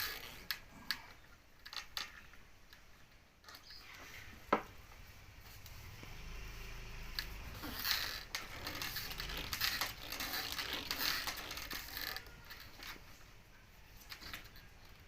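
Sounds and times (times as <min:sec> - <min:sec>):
mechanical clicking and creaking: 0:00.0 - 0:04.0, 0:05.5 - 0:15.0.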